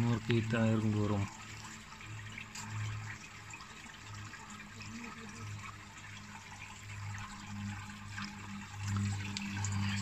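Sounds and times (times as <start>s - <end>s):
pulsing low hum: 0.0s - 10.0s
water trickling: 0.0s - 10.0s.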